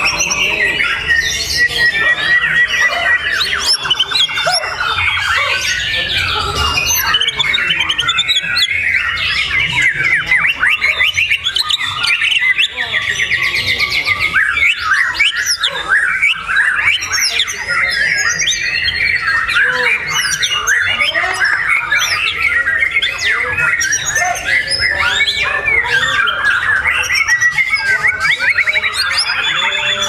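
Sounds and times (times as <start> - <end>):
songbird singing whistles and trills: 0.0 - 30.0.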